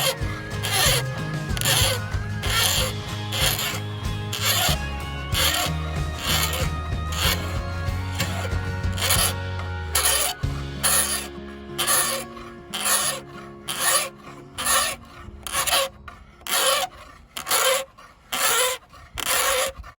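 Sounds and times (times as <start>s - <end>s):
faint background music: 0.0s - 17.9s
hand file rasping laminate: 0.0s - 20.0s.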